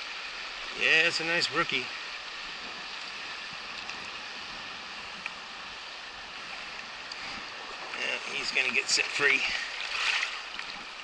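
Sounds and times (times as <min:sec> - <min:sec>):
river water running over rocks: 0:00.0 - 0:11.0.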